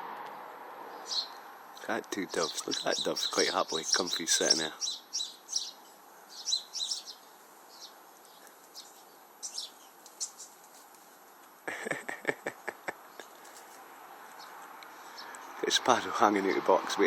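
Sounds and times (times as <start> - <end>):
sparrows chirping: 0.8 - 11.6, 12.7 - 17.0.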